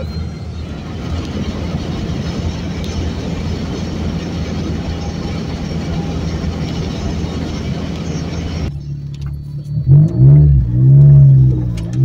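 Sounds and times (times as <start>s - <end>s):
car engine low hum: 0.0s - 12.0s
road noise: 0.0s - 12.0s.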